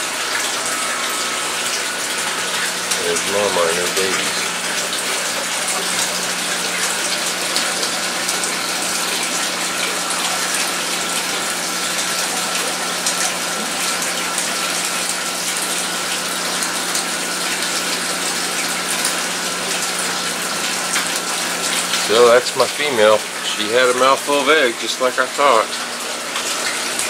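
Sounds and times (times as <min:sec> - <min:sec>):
aquarium pump water rushing: 0:00.0 - 0:27.0.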